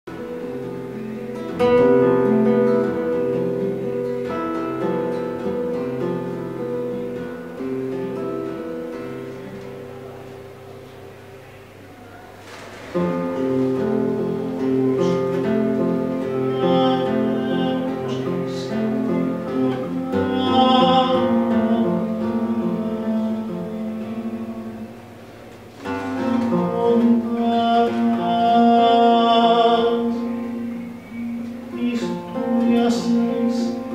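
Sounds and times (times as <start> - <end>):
acoustic guitar song: 0.1 - 33.9
held melody notes: 0.1 - 33.9.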